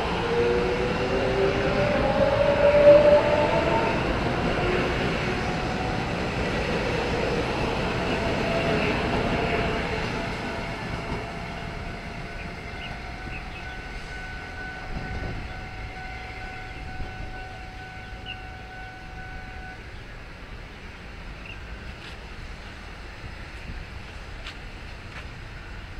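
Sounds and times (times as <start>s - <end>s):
electric train pulling away: 0.0s - 25.9s.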